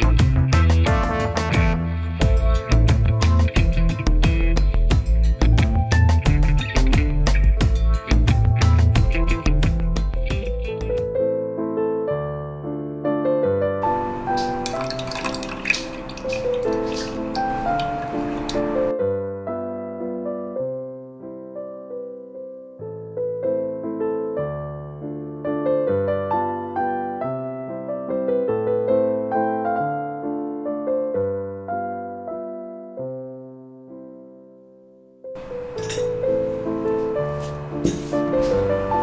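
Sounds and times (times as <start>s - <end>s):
gentle solo piano melody: 4.3s - 39.0s.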